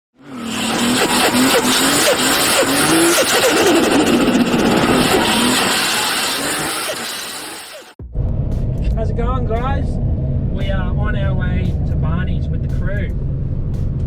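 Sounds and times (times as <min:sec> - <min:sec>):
car engine revving: 0:00.1 - 0:14.0.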